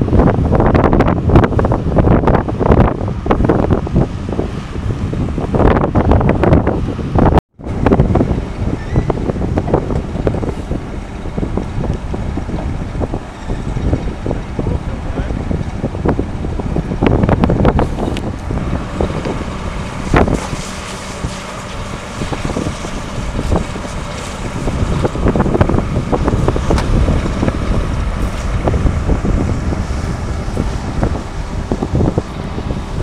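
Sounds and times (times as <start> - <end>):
fire engine motor running: 0.0 - 33.0
wind buffeting microphone: 0.0 - 33.0.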